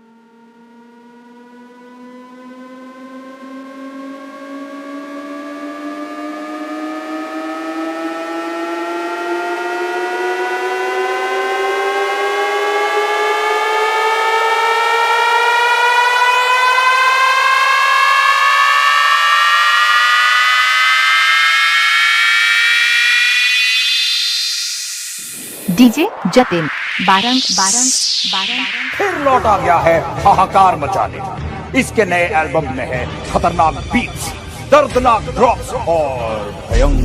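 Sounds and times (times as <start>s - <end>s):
synth riser sweeping upward: 0.0s - 33.3s.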